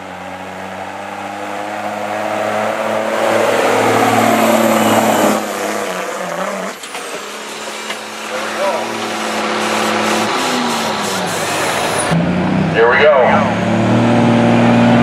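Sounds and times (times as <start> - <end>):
diesel truck engine passing: 0.0 - 15.0.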